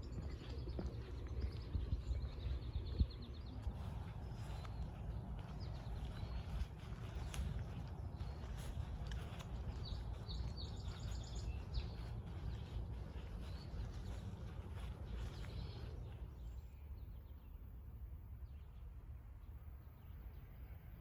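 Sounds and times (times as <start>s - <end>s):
steady low rumble: 0.0s - 21.0s
wild birds singing: 0.0s - 21.0s.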